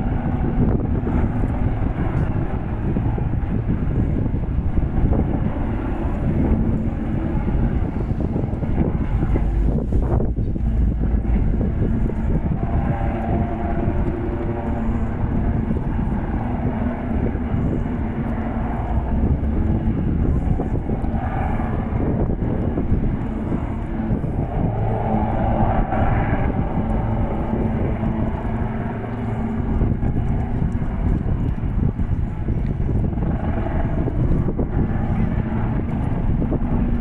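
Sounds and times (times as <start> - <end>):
distant helicopters droning: 0.0 - 37.0.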